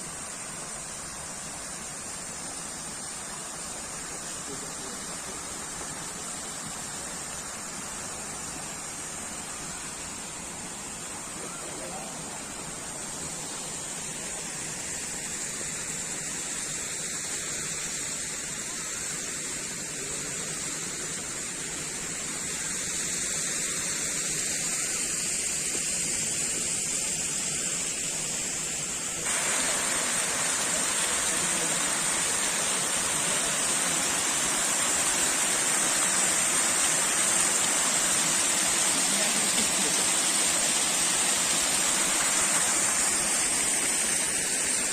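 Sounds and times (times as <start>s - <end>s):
rushing noise with high hiss: 0.0s - 44.9s.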